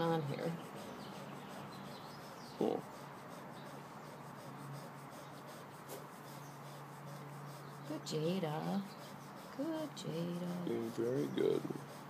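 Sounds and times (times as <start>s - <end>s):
towel rubbing on fur: 0.0s - 12.0s.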